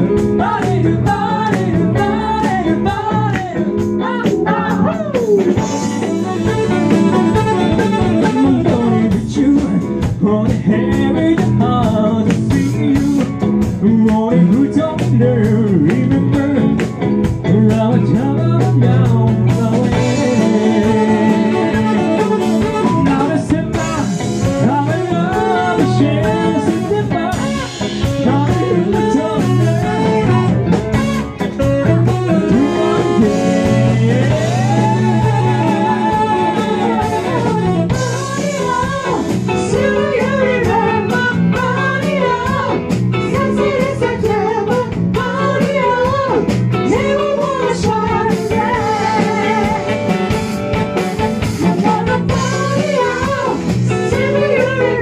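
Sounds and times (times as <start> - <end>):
person singing: 0.0 - 50.6, 51.5 - 55.0
drum kit beat: 0.0 - 55.0
guitar: 0.0 - 55.0.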